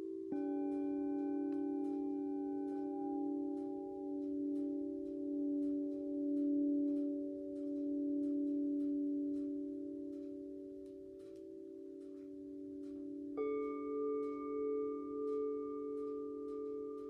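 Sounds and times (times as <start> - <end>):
higher bell tone: 0.0 - 17.0
temple bells ringing low: 0.0 - 17.0.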